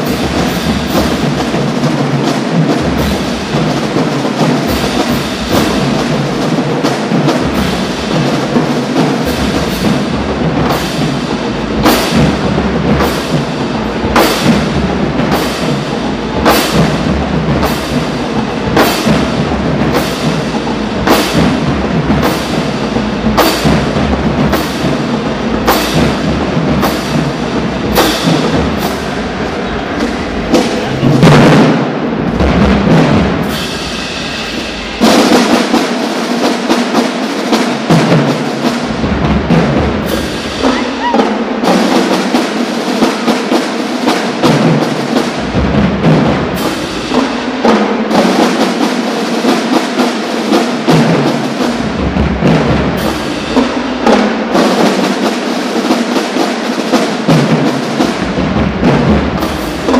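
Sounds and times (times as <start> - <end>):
marching drumline playing: 0.0 - 59.9.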